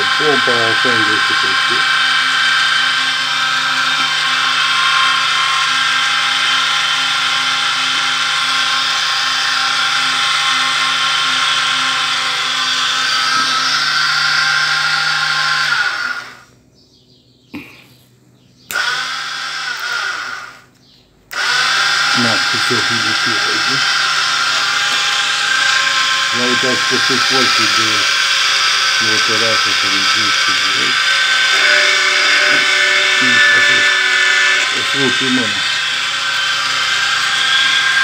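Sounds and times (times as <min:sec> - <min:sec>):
electric motor whining: 0:00.0 - 0:16.5, 0:18.7 - 0:20.7, 0:21.3 - 0:38.0.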